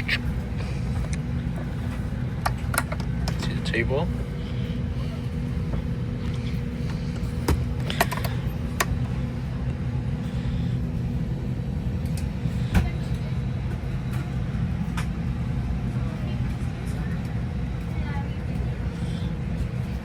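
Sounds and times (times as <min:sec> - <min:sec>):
aircraft cabin hum: 0:00.0 - 0:20.0.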